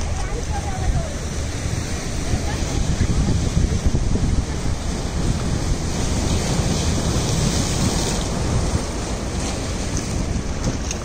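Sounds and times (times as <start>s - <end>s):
boat engine rumbling: 0.0s - 11.0s
bow wave and wake rushing: 0.0s - 11.0s.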